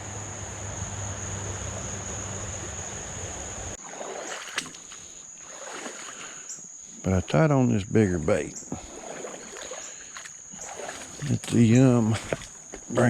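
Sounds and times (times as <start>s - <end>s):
creek rushing: 0.0s - 6.4s, 8.8s - 13.0s
high-pitched insect drone: 0.0s - 13.0s.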